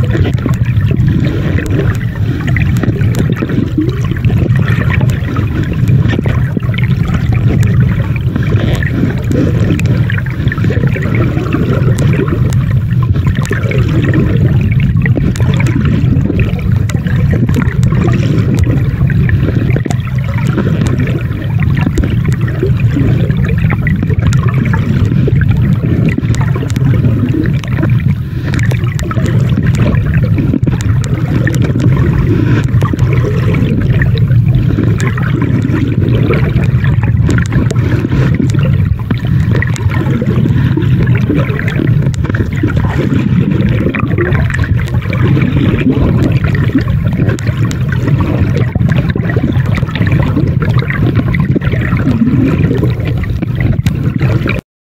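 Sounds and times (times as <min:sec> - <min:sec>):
low rush of water underwater: 0:00.0 - 0:54.6
water gurgling: 0:00.0 - 0:54.6.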